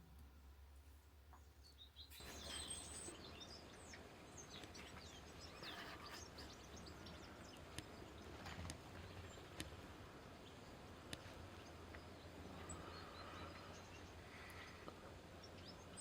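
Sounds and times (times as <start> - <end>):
small birds chirping: 1.3 - 16.0.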